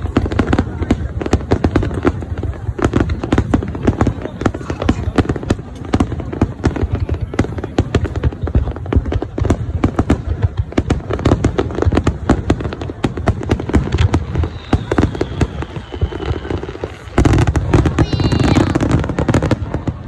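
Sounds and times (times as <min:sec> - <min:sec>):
fireworks popping: 0:00.0 - 0:20.0.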